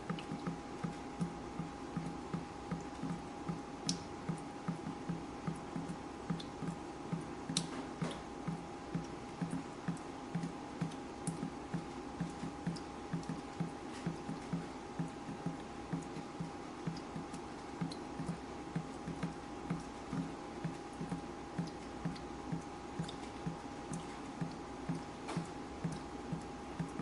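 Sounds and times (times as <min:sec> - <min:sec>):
faint steady hum: 0:00.0 - 0:27.0
water dripping: 0:00.0 - 0:27.0.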